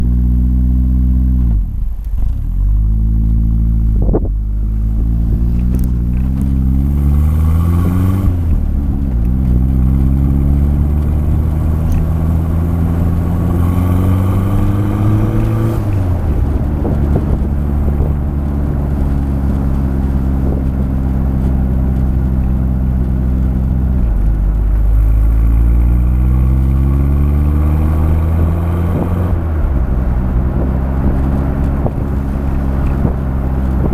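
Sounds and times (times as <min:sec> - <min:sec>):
car exhaust accelerating: 0:00.0 - 0:33.9.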